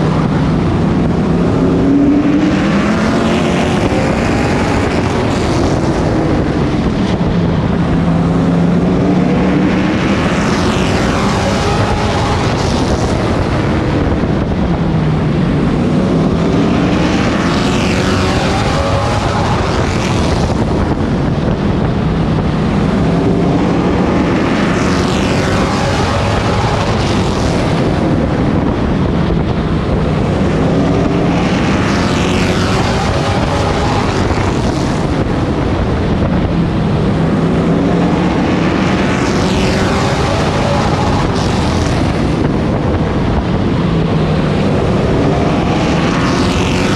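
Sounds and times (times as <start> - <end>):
race truck engine accelerating: 0.0 - 46.9
wind and road noise: 0.0 - 46.9.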